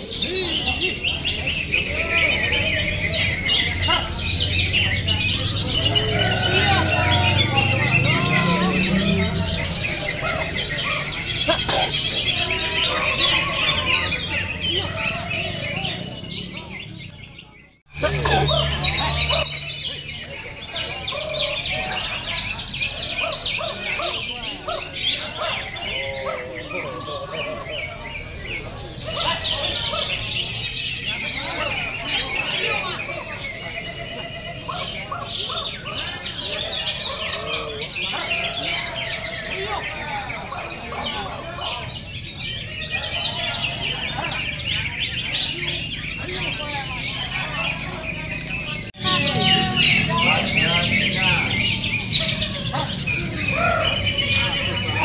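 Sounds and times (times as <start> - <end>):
low background murmur: 0.0 - 55.0
songbirds chirping and trilling: 0.0 - 55.0.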